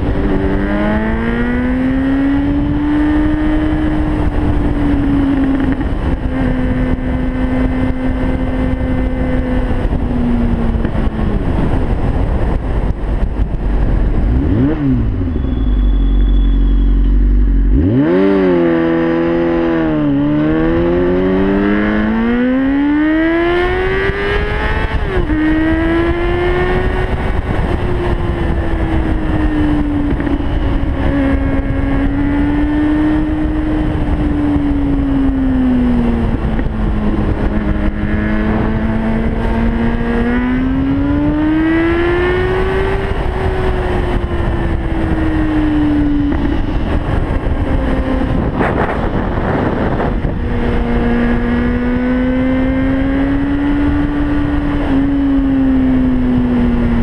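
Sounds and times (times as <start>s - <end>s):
motorcycle engine revving: 0.0s - 57.0s
wind rumble on microphone: 0.0s - 57.0s.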